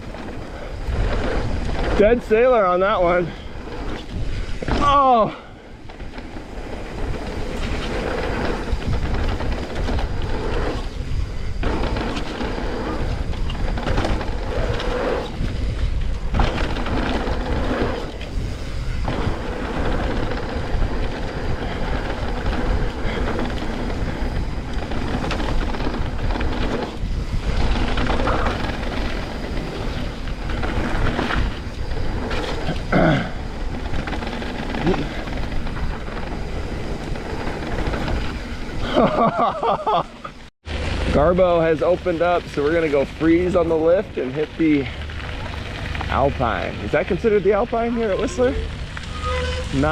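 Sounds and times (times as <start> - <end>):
bike rattling over bumps: 0.0 - 49.9
bike tyres rolling on dirt: 0.0 - 49.9
wind rumble on microphone: 0.0 - 49.9.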